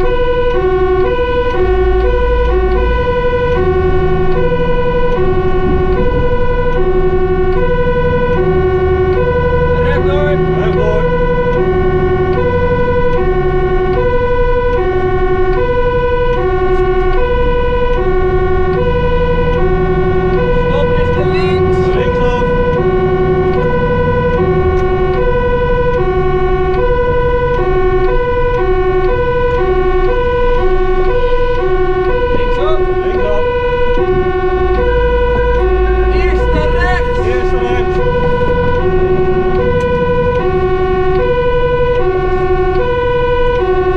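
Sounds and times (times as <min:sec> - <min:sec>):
truck engine drone: 0:00.0 - 0:43.9
two-tone siren: 0:00.0 - 0:43.9.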